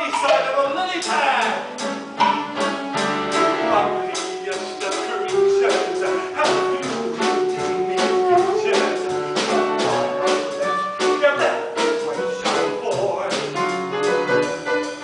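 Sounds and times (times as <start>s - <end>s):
upbeat instrumental show tune: 0.0s - 15.0s.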